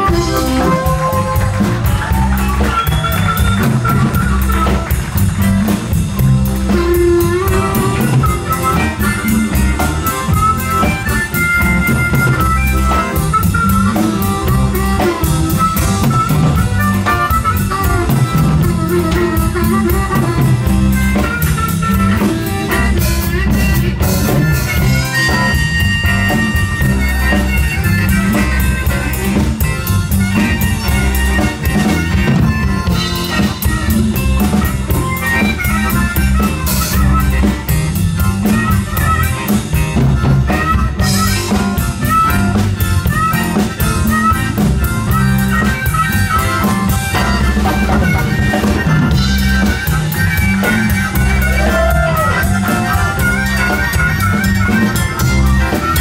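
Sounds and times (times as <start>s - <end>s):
blues harmonica solo: 0.0s - 56.0s
live blues band playing: 0.0s - 56.0s.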